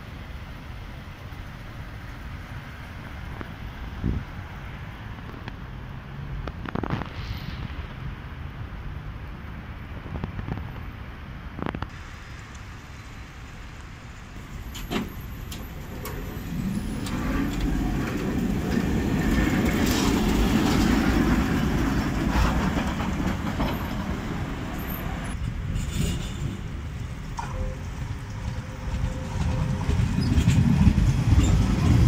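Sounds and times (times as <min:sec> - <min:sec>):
tram wheels rumbling: 0:00.0 - 0:32.0.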